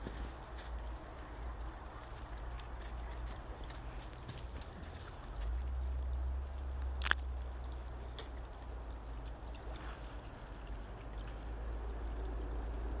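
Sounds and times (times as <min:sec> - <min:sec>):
brook running: 0:00.0 - 0:13.0
low steady rumble: 0:00.0 - 0:13.0.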